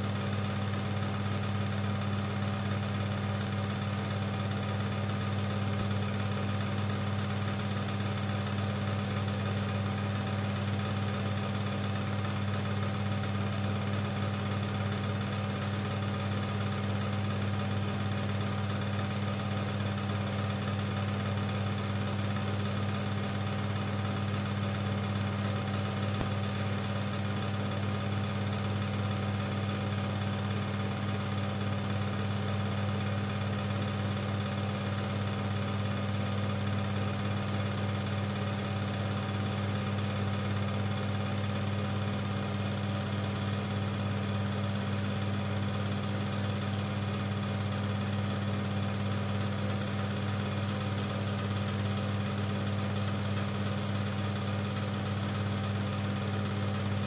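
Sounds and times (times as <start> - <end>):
film projector humming: 0.0 - 57.0.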